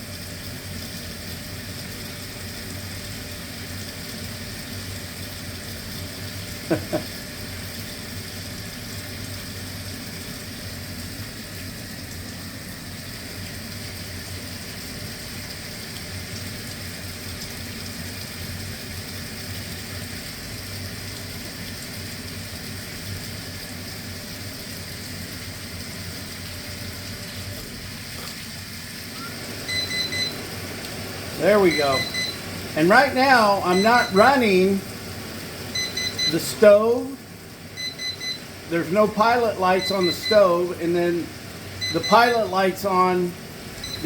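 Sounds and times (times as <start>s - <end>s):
hot water rushing: 0.0s - 44.0s
water heater humming: 0.0s - 44.0s.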